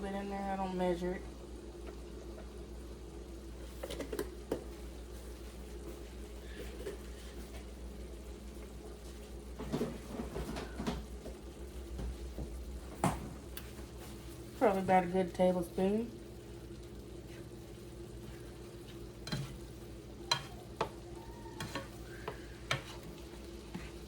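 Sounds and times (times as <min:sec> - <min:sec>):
meat simmering in a pan: 0:00.0 - 0:24.0.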